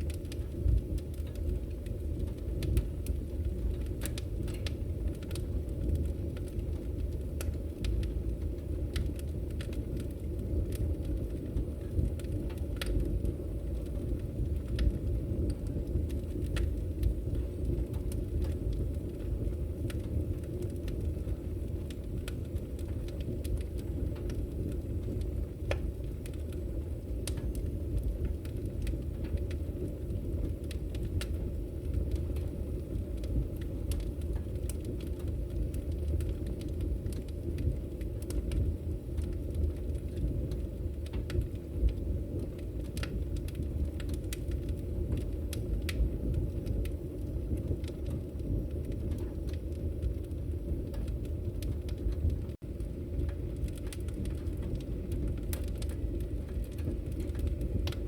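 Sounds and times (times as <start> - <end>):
firewood crackling and popping: 0.0 - 58.0
wood fire flames rumbling: 0.0 - 58.0.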